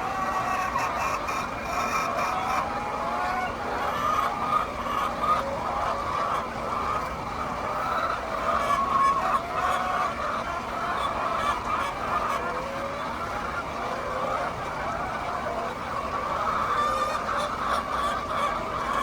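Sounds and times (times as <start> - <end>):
hens clucking: 0.0 - 19.0.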